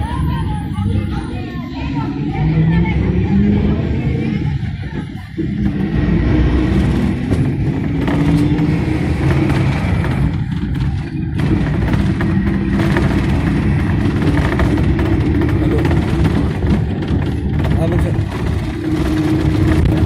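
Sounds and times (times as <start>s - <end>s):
bus engine running: 0.0s - 20.0s
road noise: 0.0s - 20.0s.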